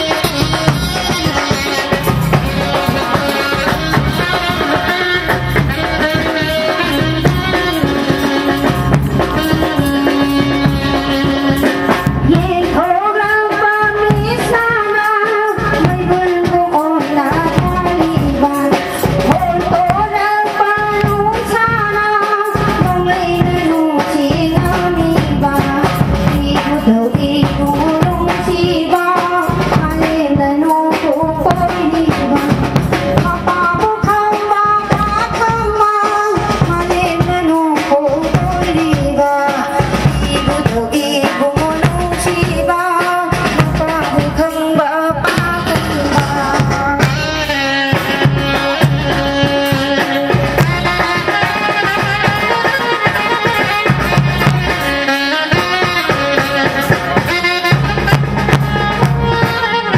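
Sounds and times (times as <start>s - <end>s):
woman singing into microphone: 0.0s - 58.1s
instrumental accompaniment: 0.0s - 59.9s
steady drum beat: 0.0s - 59.9s.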